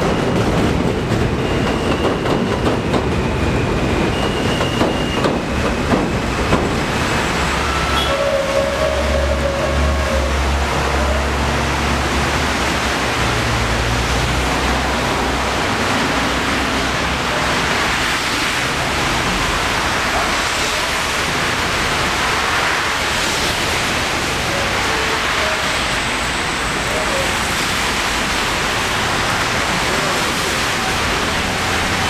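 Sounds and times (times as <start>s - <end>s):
loud rushing noise: 0.0s - 32.0s
subway train low rumble: 0.0s - 32.0s.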